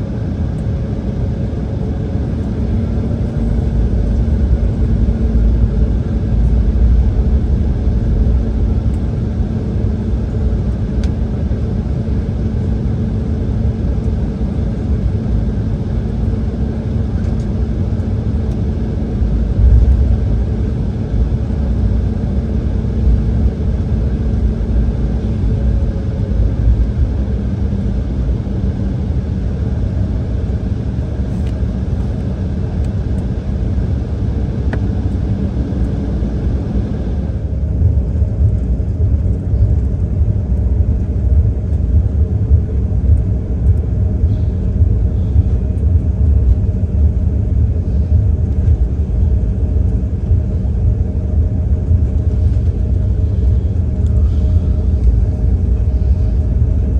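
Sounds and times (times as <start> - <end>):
airliner cabin rumble: 0.0 - 56.9
faint engine hum: 0.0 - 56.9.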